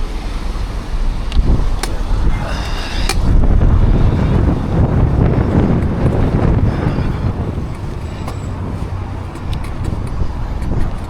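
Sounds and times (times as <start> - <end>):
road noise: 0.0 - 11.0
wind buffeting microphone: 0.0 - 11.0.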